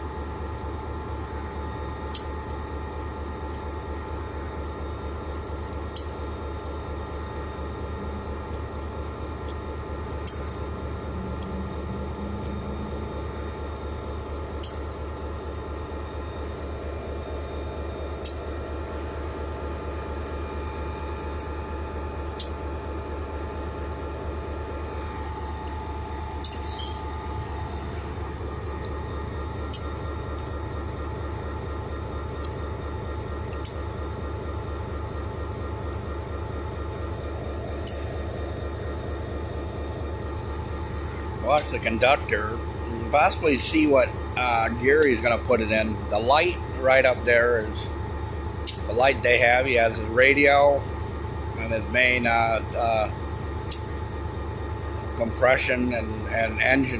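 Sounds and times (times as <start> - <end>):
diesel locomotive engine idling: 0.0 - 56.9
steady humming tones: 0.0 - 56.9.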